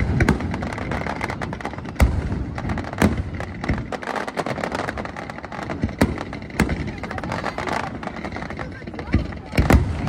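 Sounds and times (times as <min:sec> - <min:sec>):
firework pops and crackles: 0:00.0 - 0:10.0
loud firework bangs: 0:00.0 - 0:10.0.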